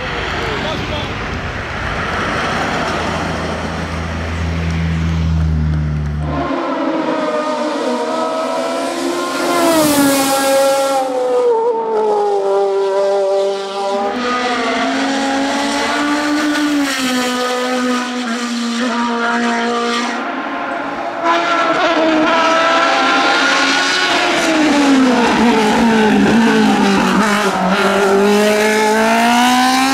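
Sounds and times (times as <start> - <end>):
racing car engines revving: 0.0 - 29.9.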